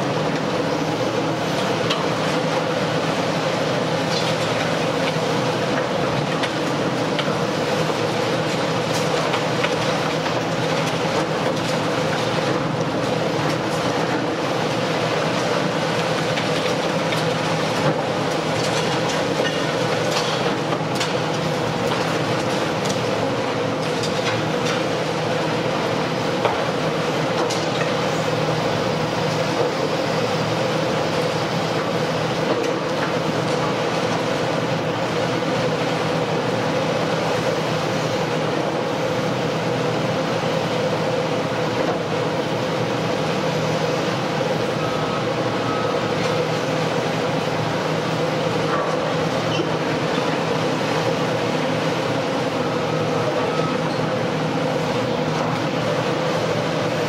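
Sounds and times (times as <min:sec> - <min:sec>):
excavator engine and hydraulic drone: 0:00.0 - 0:57.0.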